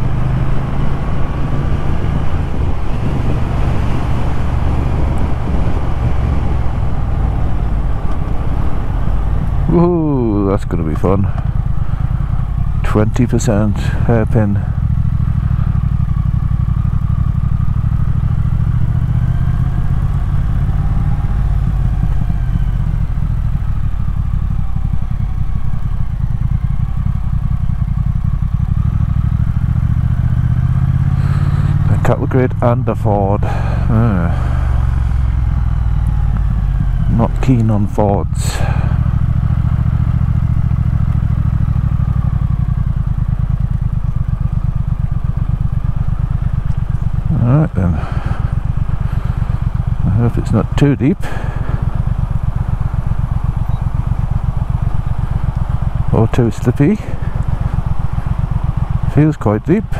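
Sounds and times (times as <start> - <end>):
motorcycle engine pulsing: 0.0 - 59.9.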